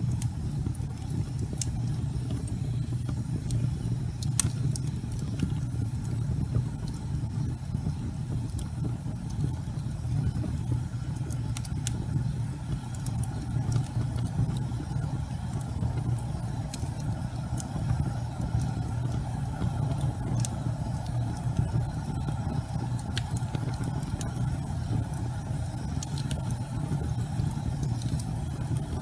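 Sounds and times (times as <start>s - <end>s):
burning logs crackling and popping: 0.0s - 29.0s
fire flames rumbling: 0.0s - 29.0s.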